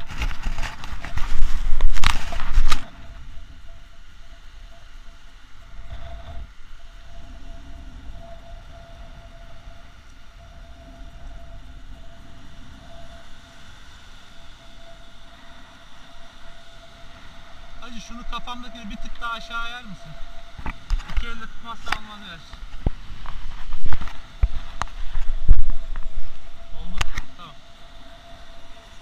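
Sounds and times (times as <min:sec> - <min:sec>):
faint constant tone: 0:00.0 - 0:29.0
wind rumbling on microphone: 0:00.0 - 0:29.0.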